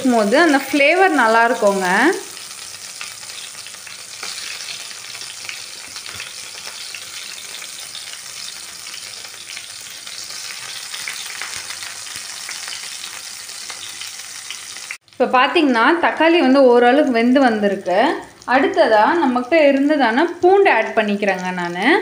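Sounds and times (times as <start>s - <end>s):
tomatoes sizzling in hot oil: 0.0s - 22.0s.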